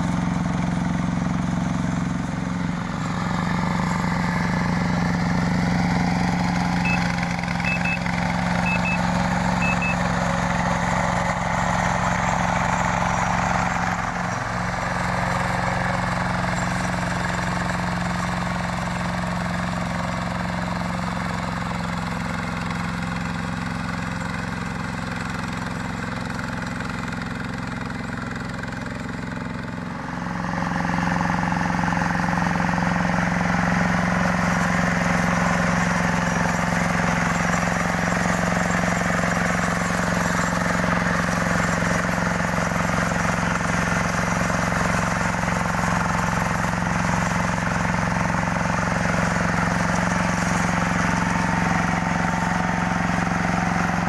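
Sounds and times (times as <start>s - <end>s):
diesel engine running under load: 0.0s - 54.0s
rotary tiller churning mud: 0.0s - 54.0s.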